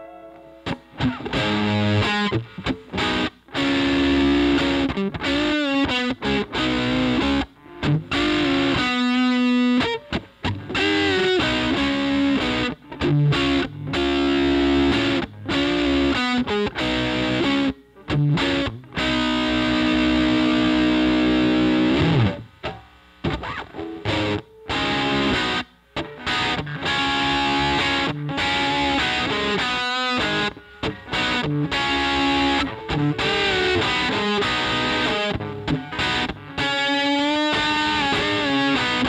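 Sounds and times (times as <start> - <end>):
electric guitar lead phrases: 0.0 - 39.0.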